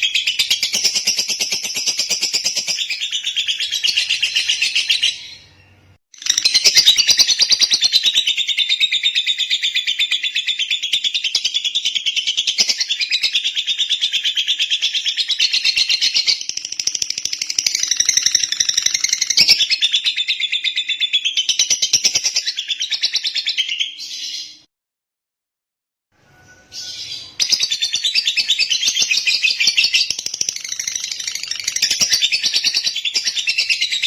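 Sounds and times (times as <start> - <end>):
lovebird chirping: 0.0 - 24.7, 26.3 - 34.0.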